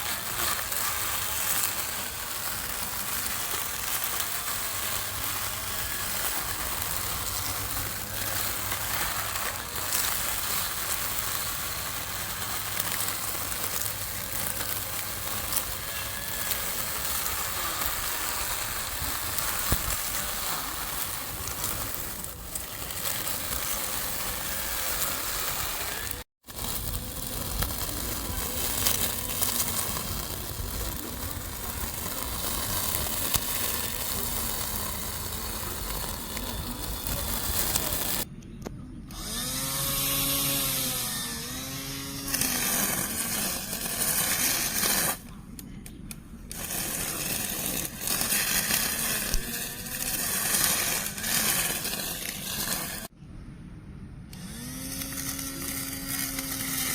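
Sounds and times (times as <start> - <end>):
electric lawn mower motor: 0.0 - 38.3, 39.1 - 45.4, 46.5 - 53.2, 54.3 - 56.9.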